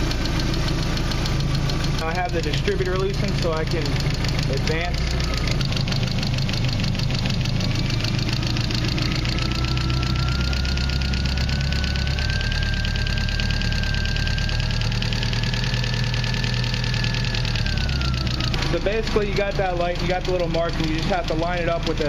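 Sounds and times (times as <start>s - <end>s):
car engine idling: 0.0s - 22.0s
faint engine whine: 0.0s - 22.0s
fast even engine ticking: 0.0s - 22.0s.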